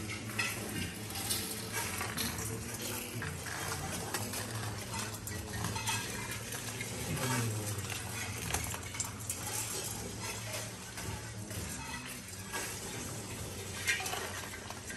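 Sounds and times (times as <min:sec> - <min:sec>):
metal plate and rings clinking: 0:00.0 - 0:14.9
rice grains rattling on metal: 0:00.0 - 0:14.9.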